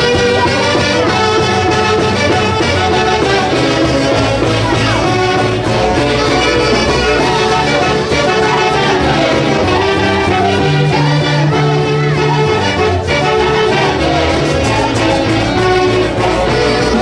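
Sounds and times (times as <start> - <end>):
folk orchestra playing: 0.0 - 17.0
steady bass: 0.0 - 17.0
wind instruments melody: 0.0 - 17.0.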